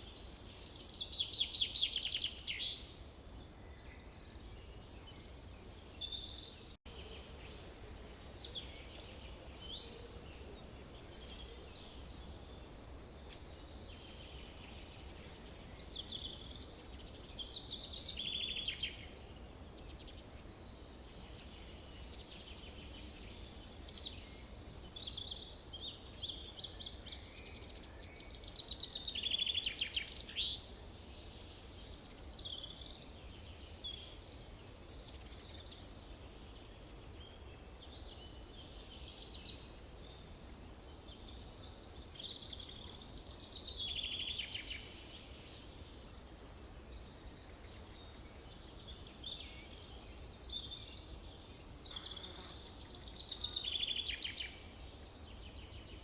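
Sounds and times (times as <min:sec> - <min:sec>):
trilled birdsong: 0:00.0 - 0:56.0.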